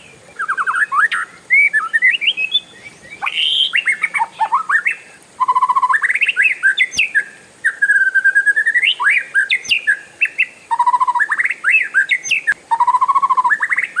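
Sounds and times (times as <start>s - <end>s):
songbird singing rattling trills: 0.0s - 14.0s.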